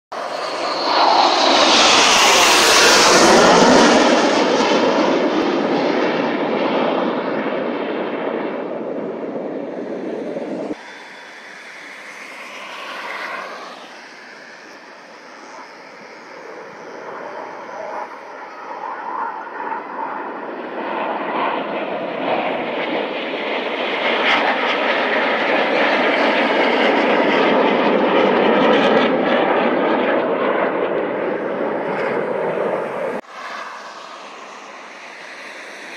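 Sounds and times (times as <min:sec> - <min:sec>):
jets passing: 0:00.2 - 0:35.9.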